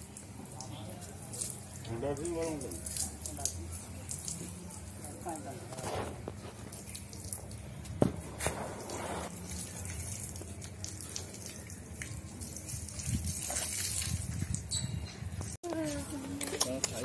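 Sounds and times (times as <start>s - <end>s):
hose water splashing on paving: 0.0s - 17.0s.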